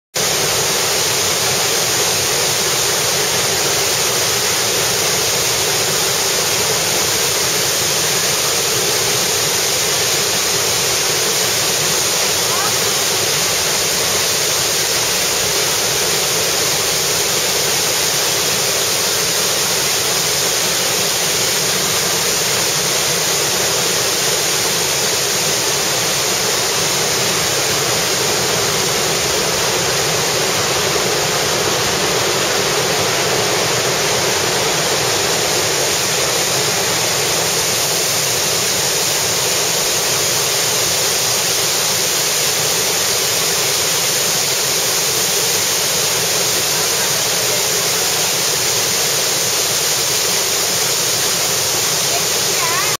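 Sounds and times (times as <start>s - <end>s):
waterfall rushing: 0.2s - 52.9s.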